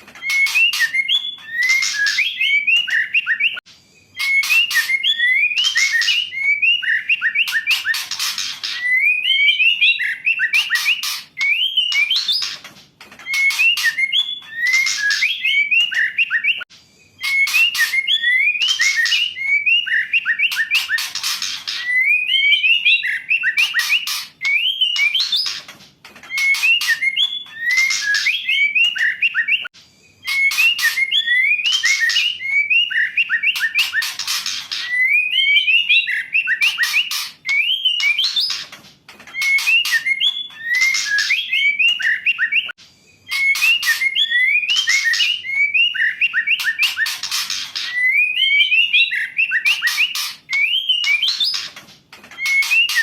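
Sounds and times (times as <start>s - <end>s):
bird calling whistled and rasping notes: 0.2s - 25.7s, 26.3s - 38.7s, 39.3s - 51.8s, 52.4s - 53.0s.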